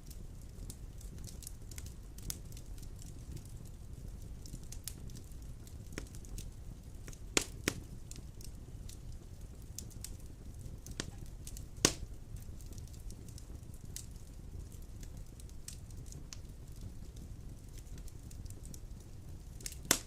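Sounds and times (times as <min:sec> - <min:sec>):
fire crackles and pops: 0:00.0 - 0:20.0
low rumble of flame: 0:00.0 - 0:20.0.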